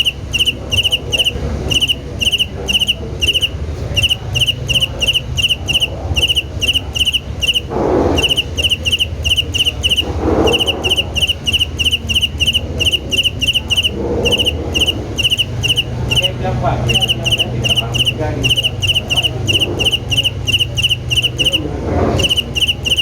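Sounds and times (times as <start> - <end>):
cricket chirping: 0.0 - 23.0
low steady rumble: 0.0 - 23.0.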